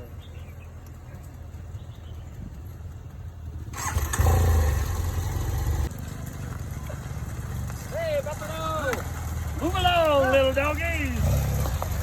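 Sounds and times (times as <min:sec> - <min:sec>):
motorbike engine rumbling: 0:00.0 - 0:12.0
engine surge and rushing noise: 0:00.6 - 0:12.0.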